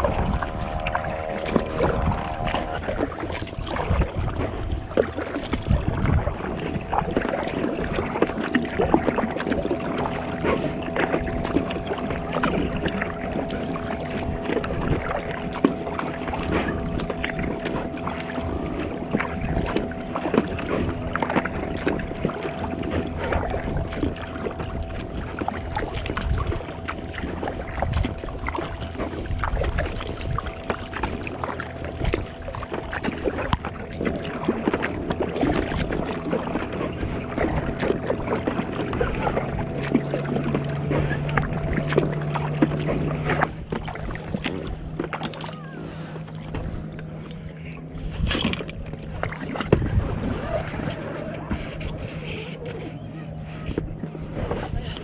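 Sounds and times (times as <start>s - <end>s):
water splashing and lapping: 0.0s - 55.0s.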